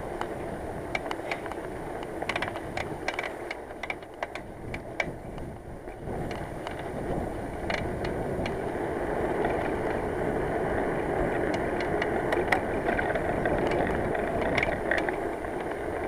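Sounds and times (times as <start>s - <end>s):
bicycle tyre and wind noise: 0.0s - 16.0s.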